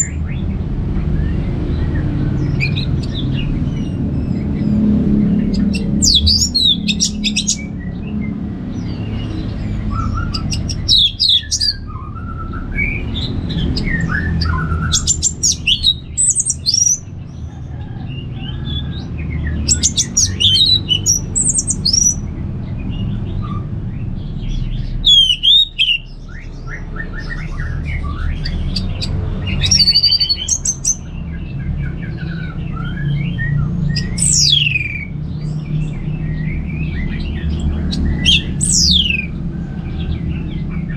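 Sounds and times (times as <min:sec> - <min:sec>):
thrush singing: 0:00.0 - 0:17.1, 0:18.0 - 0:22.4, 0:23.0 - 0:31.2, 0:32.0 - 0:40.9
low background rumble: 0:00.0 - 0:40.9.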